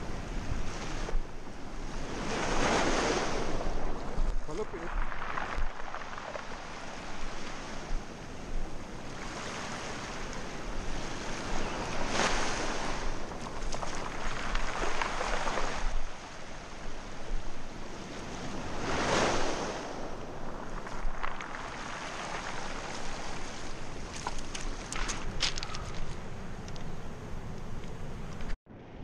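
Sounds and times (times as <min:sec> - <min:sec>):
waves washing up pebble beach: 0:00.0 - 0:26.1
wind buffeting microphone: 0:00.0 - 0:28.6.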